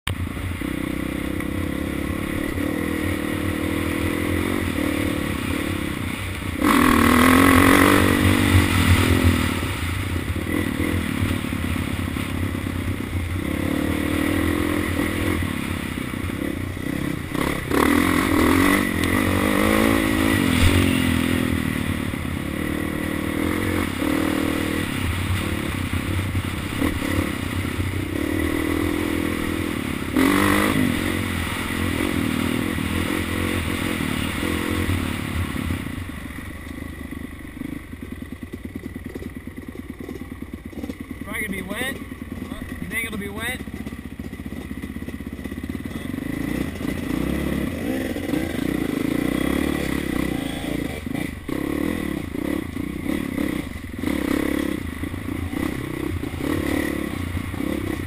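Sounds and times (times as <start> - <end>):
dirt bike engine revving: 0.2 - 58.0.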